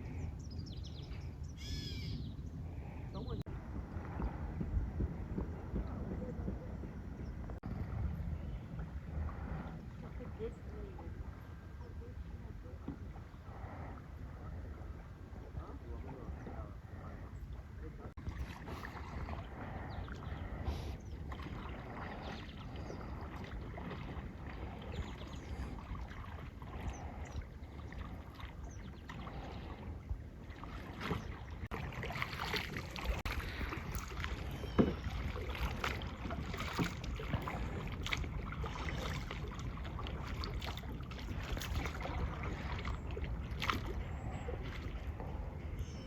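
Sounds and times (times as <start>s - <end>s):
water sloshing around a boat: 0.0s - 46.0s
wind on microphone: 0.0s - 46.0s.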